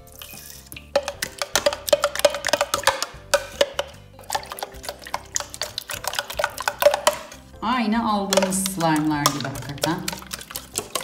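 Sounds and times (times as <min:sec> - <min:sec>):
background music: 0:00.0 - 0:11.0
slime stirred with wet clicks: 0:00.8 - 0:07.4, 0:08.3 - 0:11.0.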